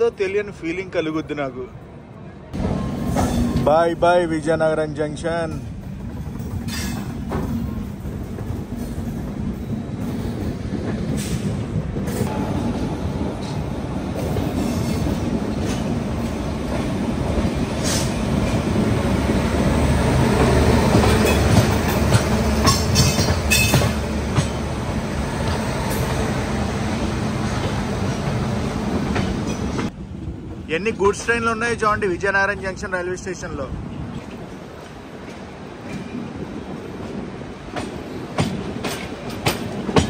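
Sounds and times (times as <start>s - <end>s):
train wheels rumbling on track: 2.5s - 40.0s.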